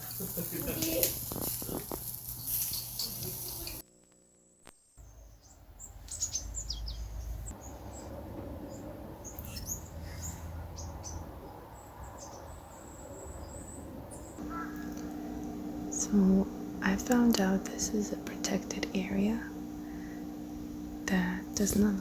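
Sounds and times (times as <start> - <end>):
small birds chirping: 0.0 - 3.8, 5.0 - 22.0.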